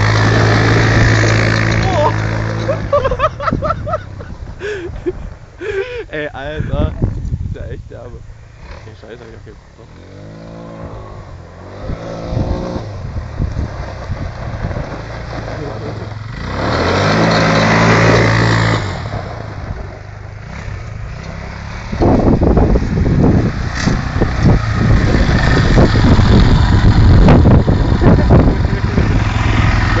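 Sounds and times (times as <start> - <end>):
quad bike engine revving: 0.0 - 4.4, 8.5 - 30.0
rough engine rumble close by: 0.0 - 30.0.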